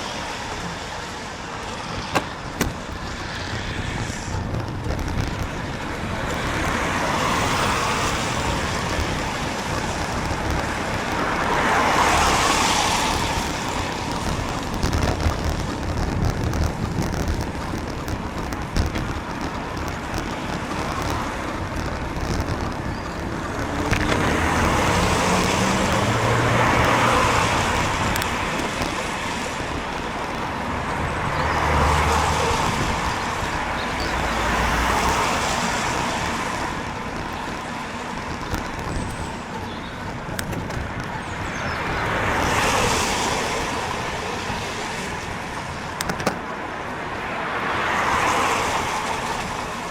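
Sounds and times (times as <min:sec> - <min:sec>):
low engine rumble: 0:00.0 - 0:47.1
tyres hissing on wet road: 0:00.0 - 0:49.9.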